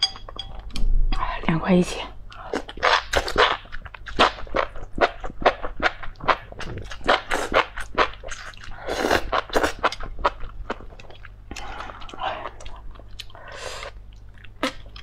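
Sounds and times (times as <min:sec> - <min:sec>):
slurping and wet chewing: 0:02.3 - 0:15.0.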